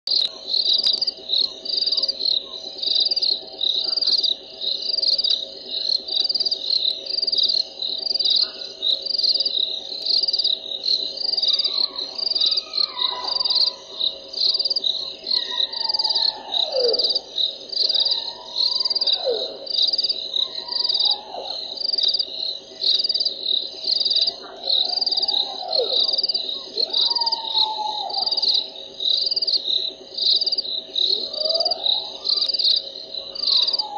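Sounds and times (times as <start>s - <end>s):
insect chirping: 0.1s - 33.9s.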